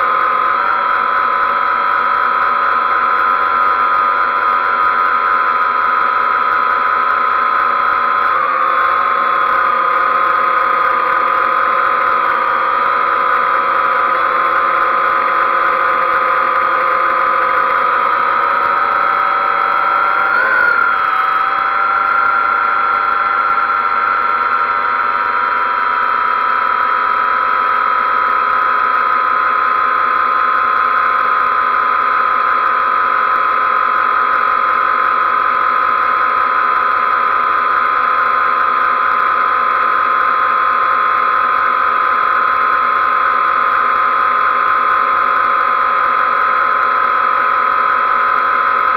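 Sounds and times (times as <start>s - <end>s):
quadcopter propellers whining: 0.0s - 48.9s.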